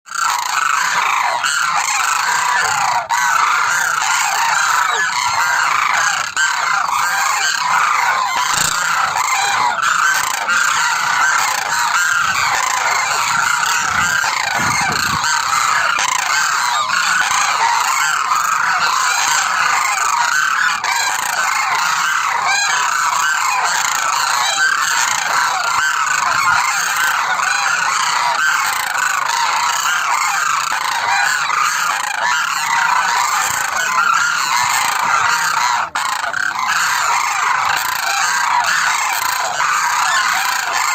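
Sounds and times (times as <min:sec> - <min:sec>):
flock of cranes calling: 0:00.0 - 0:40.9.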